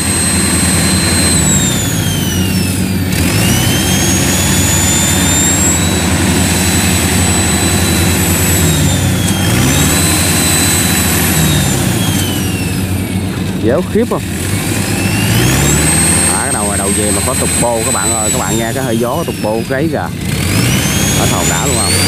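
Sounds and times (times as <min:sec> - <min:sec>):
turbo whistle: 0:00.0 - 0:13.1, 0:14.8 - 0:22.0
diesel engine labouring: 0:00.0 - 0:22.0.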